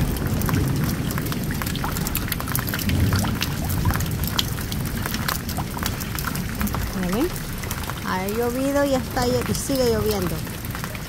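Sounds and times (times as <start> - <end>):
heavy rain: 0.0 - 11.0
low rumble of thunder: 0.0 - 11.0
raindrops on water in tubs: 0.0 - 11.0
raindrops on wooden deck: 0.0 - 11.0.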